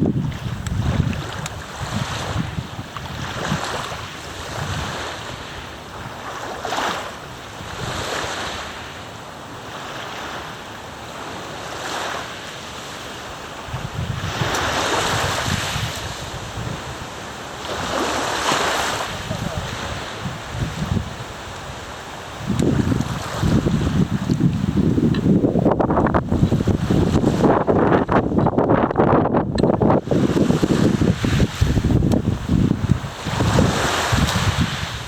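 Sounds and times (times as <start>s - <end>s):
wind buffeting microphone: 0.0s - 6.8s, 7.4s - 8.4s, 13.6s - 35.0s
lake waves washing in: 0.0s - 35.0s.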